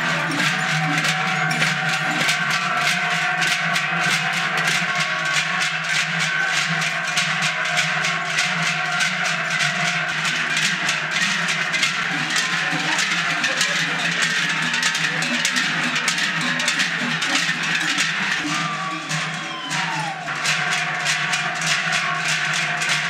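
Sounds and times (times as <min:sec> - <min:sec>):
large cowbells clanging: 0:00.0 - 0:23.0.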